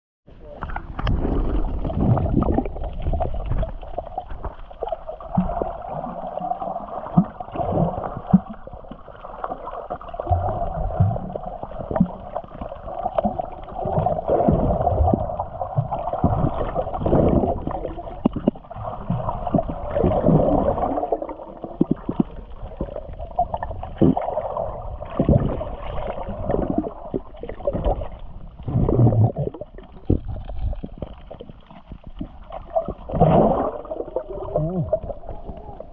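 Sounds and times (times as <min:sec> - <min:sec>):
underwater gurgling and sloshing: 0:00.3 - 0:35.9.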